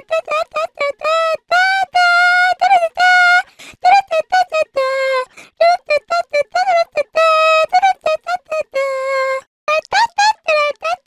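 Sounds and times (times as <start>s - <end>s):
girl singing a cappella: 0.0s - 11.0s.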